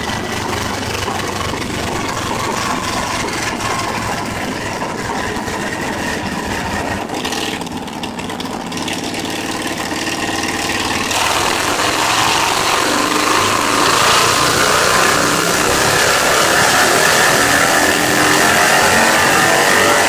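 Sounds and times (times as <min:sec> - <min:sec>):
motorcycle engine revving under load: 0:00.0 - 0:20.0.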